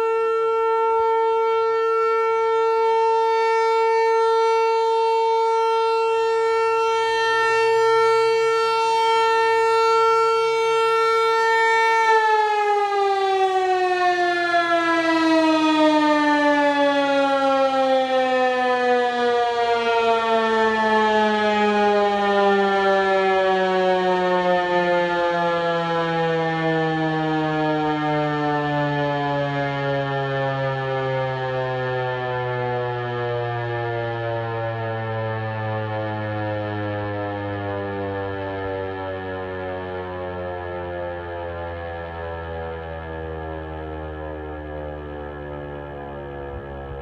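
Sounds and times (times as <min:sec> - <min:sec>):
warning siren winding down: 0:00.0 - 0:47.0.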